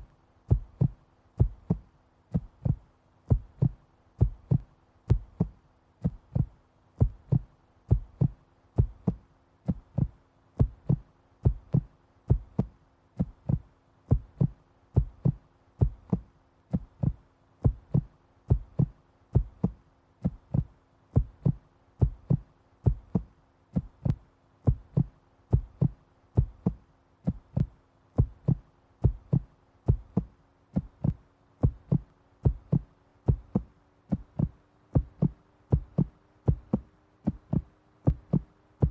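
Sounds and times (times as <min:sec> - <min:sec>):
faint steady hum: 0:00.0 - 0:38.9
heartbeat thumps: 0:00.0 - 0:38.9.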